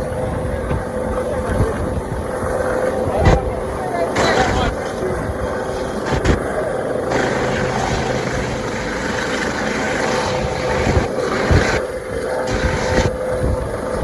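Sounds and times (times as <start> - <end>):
helicopter rotor and engine: 0.0 - 14.0
wind buffeting microphone: 0.0 - 14.0.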